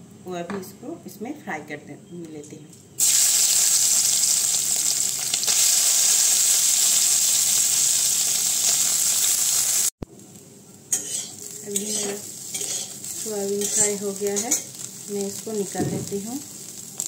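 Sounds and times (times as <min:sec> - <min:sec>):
food sizzling in hot oil: 0:03.0 - 0:17.0.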